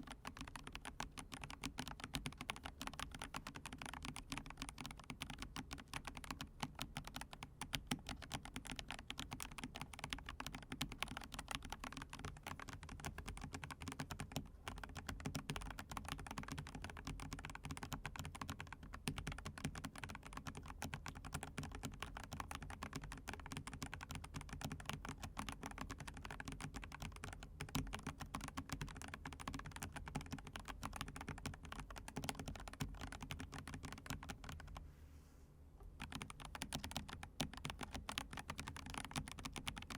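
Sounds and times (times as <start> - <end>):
fast typing on mechanical keyboard: 0.0 - 34.8, 36.0 - 39.9.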